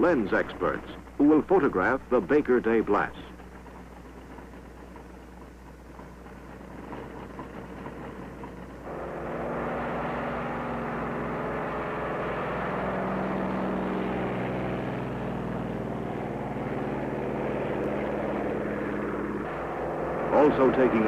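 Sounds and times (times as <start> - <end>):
propeller aircraft engines: 0.0 - 21.0.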